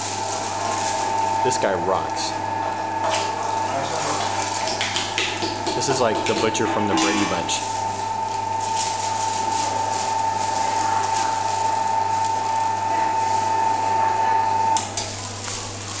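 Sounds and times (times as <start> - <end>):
electric meat grinder humming: 0.0 - 16.0.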